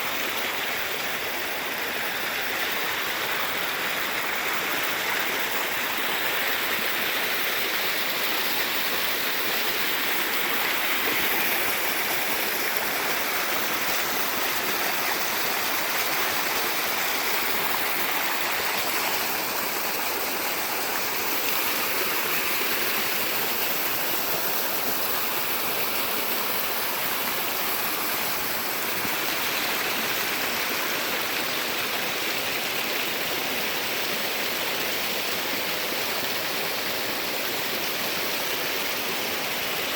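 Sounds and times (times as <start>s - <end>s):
creek water splashing over rocks: 0.0s - 39.9s.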